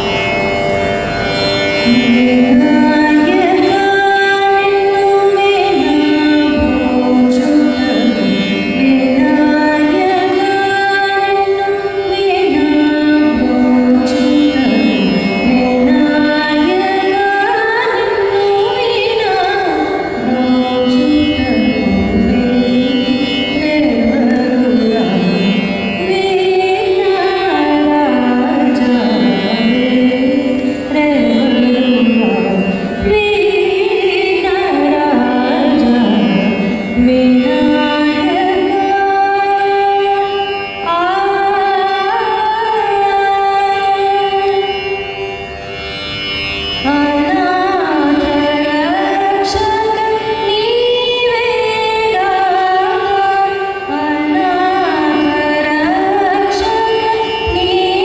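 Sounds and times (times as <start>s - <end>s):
woman singing a devotional prayer: 1.9s - 44.7s, 46.8s - 58.0s.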